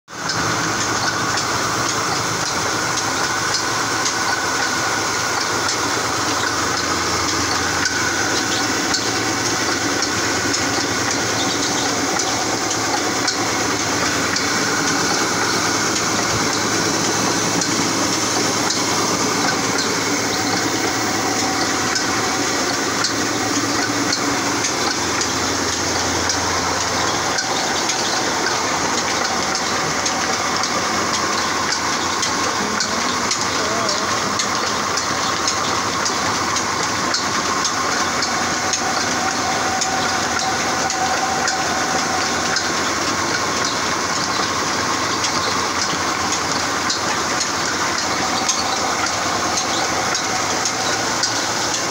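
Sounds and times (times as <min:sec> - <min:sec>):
drive belt slapping over pulleys: 0:00.1 - 0:51.9.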